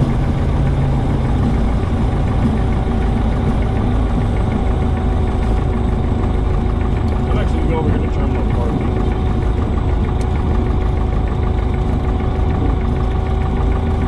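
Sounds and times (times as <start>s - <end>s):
light aircraft engine droning: 0.0s - 14.0s.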